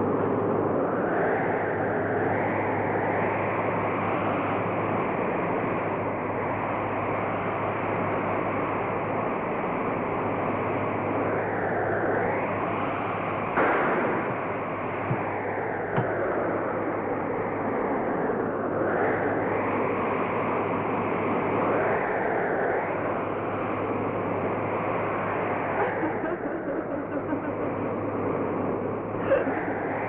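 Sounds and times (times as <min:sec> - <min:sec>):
blizzard wind gusting: 0:00.0 - 0:30.0
low steady hum: 0:01.7 - 0:30.0.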